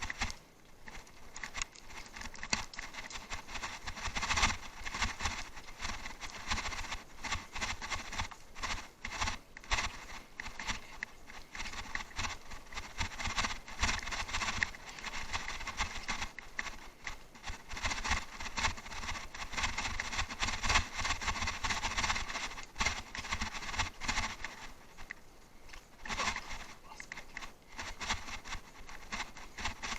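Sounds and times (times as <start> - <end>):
bicycle rattling over rough ground: 0.0 - 29.9.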